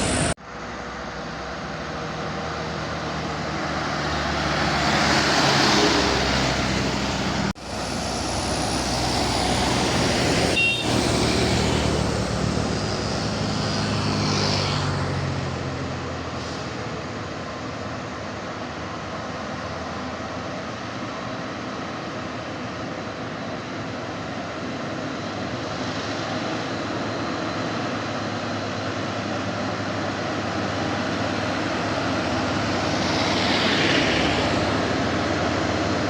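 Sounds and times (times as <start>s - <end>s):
trucks driving uphill: 0.0s - 36.0s.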